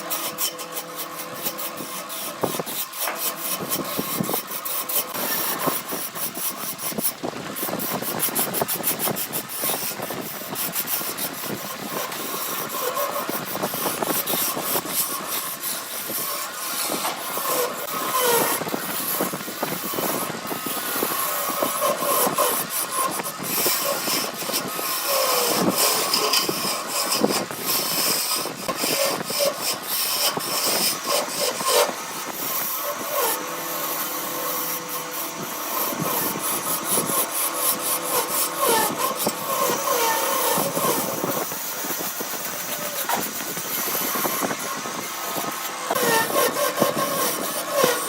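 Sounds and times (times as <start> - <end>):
lathe tool scraping wood: 0.0 - 48.0.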